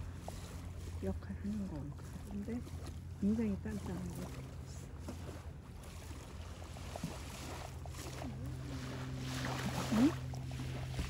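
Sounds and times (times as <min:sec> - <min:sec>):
low motor drone: 0:00.0 - 0:11.0.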